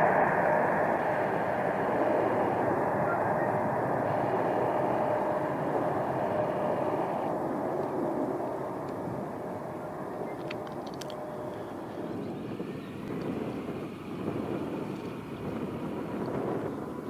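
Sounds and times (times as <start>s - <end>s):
jet airliner engines running: 0.0s - 17.0s.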